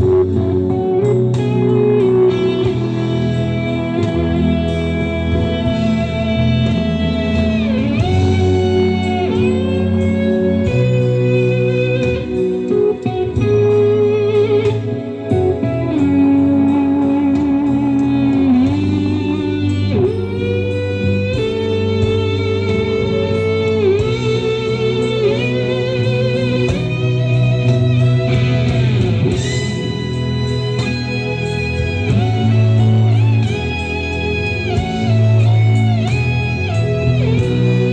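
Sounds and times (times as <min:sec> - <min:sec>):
bass line: 0:00.0 - 0:37.9
lead guitar bending notes: 0:00.0 - 0:37.9.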